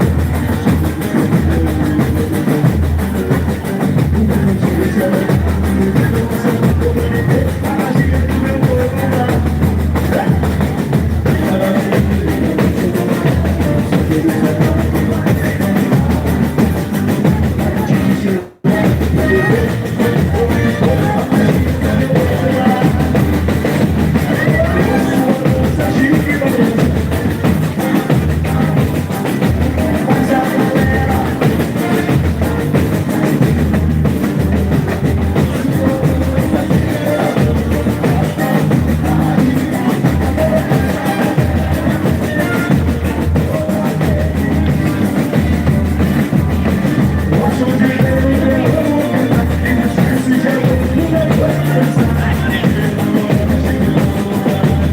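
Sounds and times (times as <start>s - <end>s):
amplified singing: 0.0s - 54.9s
pounding drum section: 0.0s - 54.9s.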